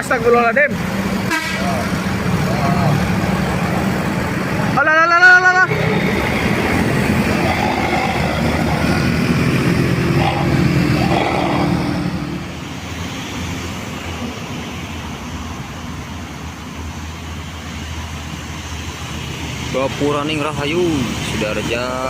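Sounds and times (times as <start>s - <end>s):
bus diesel engine running: 0.0s - 22.0s
steady traffic: 0.0s - 22.0s.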